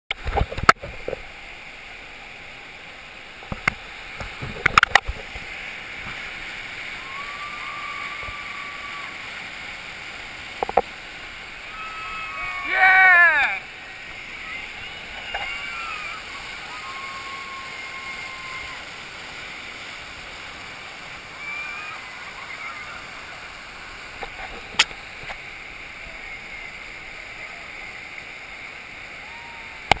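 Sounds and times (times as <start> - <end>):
whitewater rushing: 0.1 - 30.0.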